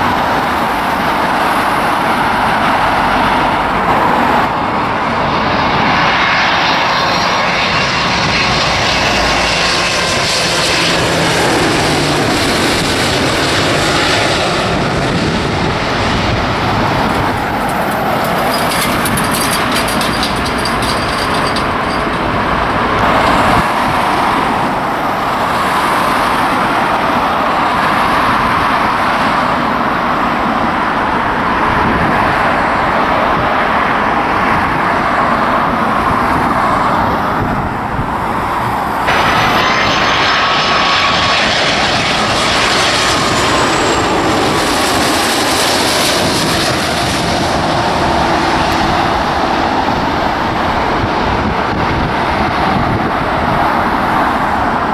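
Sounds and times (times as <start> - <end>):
high jet engine whine: 0.0 - 54.9
jet engines rushing noise: 0.0 - 54.9.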